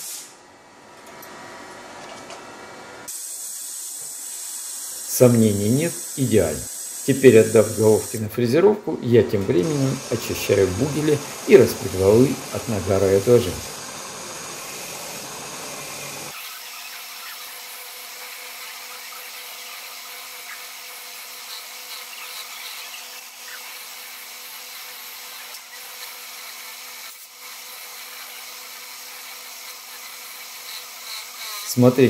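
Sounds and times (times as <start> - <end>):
wire brush hissing on metal: 3.1 - 8.5, 9.3 - 32.0
motor hum: 4.0 - 32.0.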